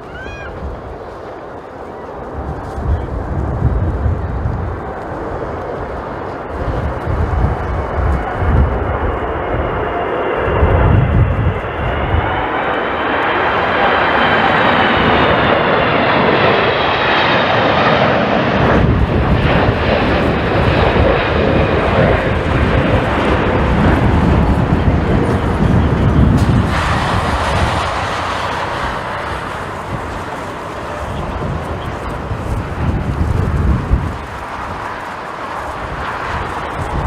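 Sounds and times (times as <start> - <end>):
jet engine low rumble: 0.0 - 37.0
jet engine turbofan whine: 0.0 - 37.0.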